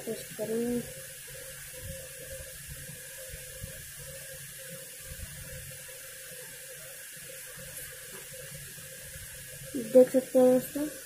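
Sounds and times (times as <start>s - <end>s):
faint steady hum: 0.0s - 11.0s
small fan whirring: 0.0s - 11.0s.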